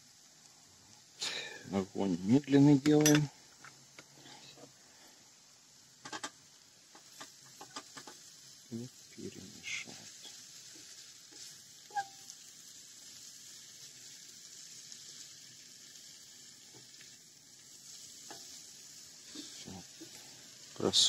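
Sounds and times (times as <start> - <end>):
mushrooms sizzling in a frying pan: 0.0 - 21.0.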